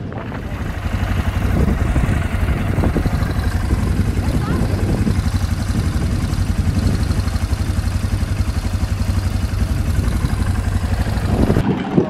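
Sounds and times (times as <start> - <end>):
quad bike engine running: 0.0 - 12.0
rough rushing noise: 0.0 - 12.0.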